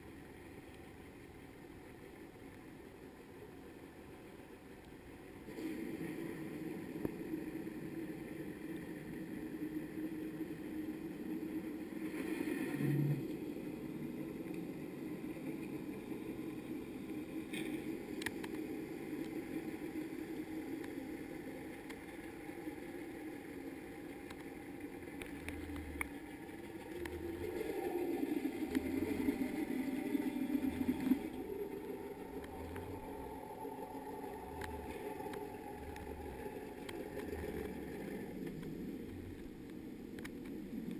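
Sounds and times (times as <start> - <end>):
muffled underwater engine hum: 0.0 - 40.9.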